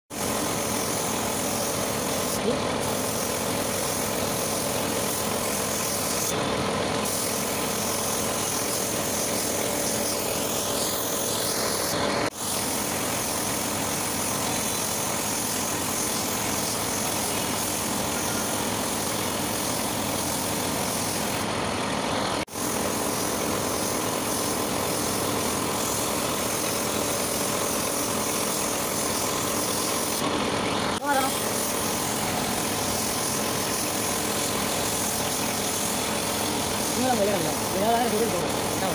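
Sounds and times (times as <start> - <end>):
spray gun hissing: 0.1 - 21.5, 22.4 - 30.3, 31.0 - 38.9
steady mechanical drone: 0.1 - 38.9.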